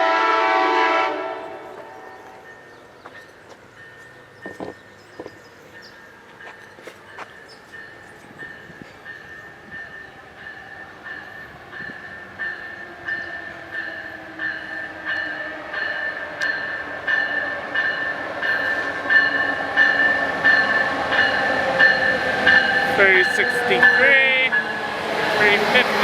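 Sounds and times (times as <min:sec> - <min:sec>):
train bell ringing: 0:01.4 - 0:26.0.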